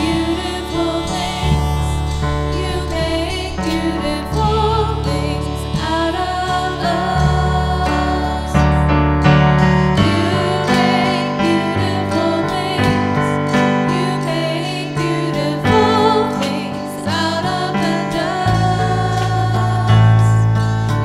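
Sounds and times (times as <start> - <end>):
person singing with vibrato: 0.0 - 9.0, 9.9 - 20.6
bass notes: 0.0 - 21.0
keyboard chords: 0.0 - 21.0.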